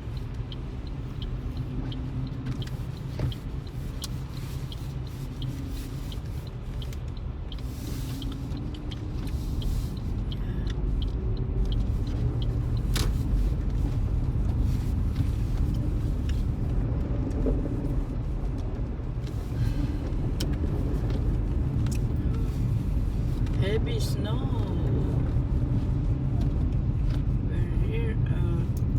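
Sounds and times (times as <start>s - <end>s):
light regular ticking: 0.0s - 28.0s
engine and tyre rumble: 0.0s - 28.9s.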